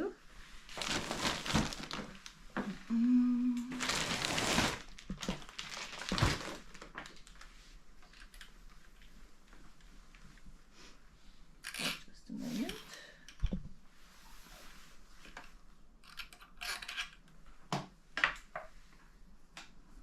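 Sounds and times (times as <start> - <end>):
rustling and handling noises: 0.3 - 3.0, 3.6 - 20.0.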